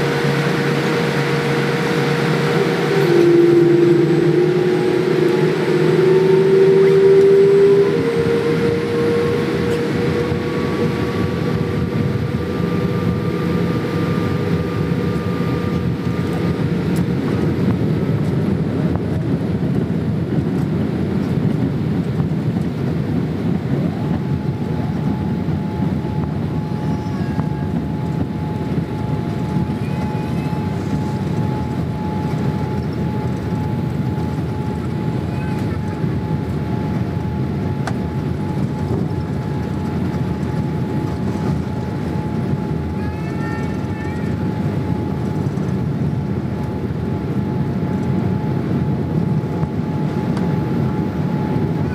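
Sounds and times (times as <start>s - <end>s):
aircraft cabin rumble: 0.0s - 51.9s
faint whine: 0.0s - 51.9s.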